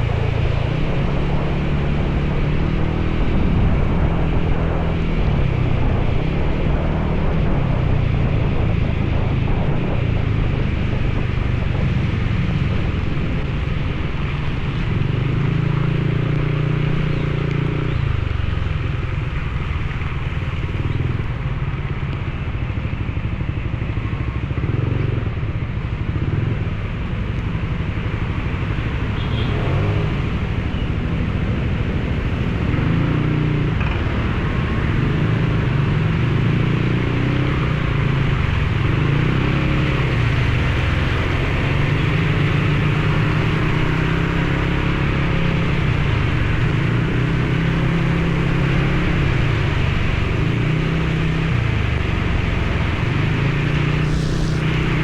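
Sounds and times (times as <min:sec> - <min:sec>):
motorcycle engine running: 0:00.0 - 0:55.0
wind and rain noise: 0:00.0 - 0:55.0.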